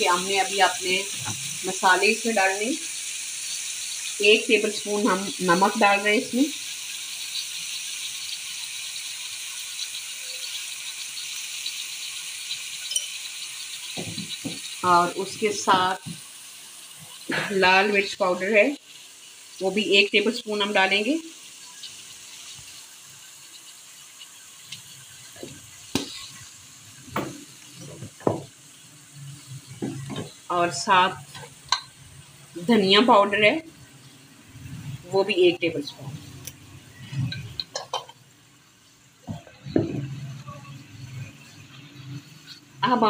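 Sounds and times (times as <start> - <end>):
meat sizzling in a pan: 0.0 - 43.0.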